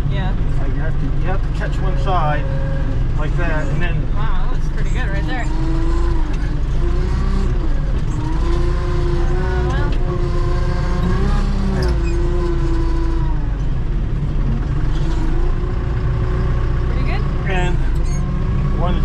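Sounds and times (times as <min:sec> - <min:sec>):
tractor engine under load: 0:00.0 - 0:19.0.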